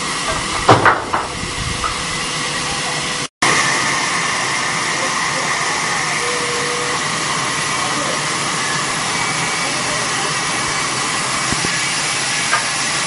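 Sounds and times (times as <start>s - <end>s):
faint machinery whines: 0.0s - 13.0s
machinery hiss: 0.0s - 13.0s.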